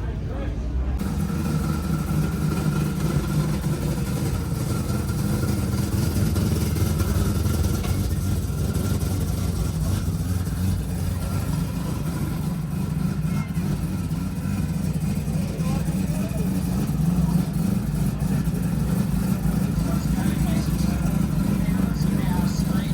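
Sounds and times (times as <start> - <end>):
car engines running low: 0.0 - 22.9.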